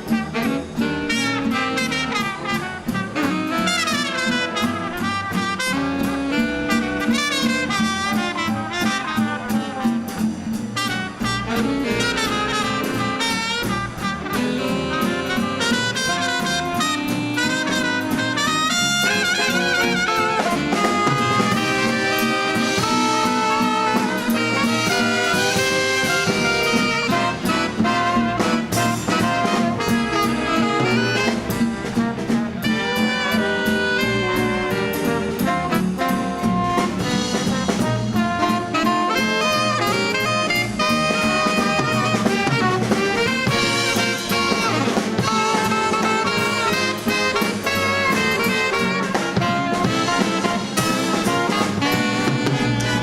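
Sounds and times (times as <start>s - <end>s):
swing jazz band playing: 0.0s - 53.0s.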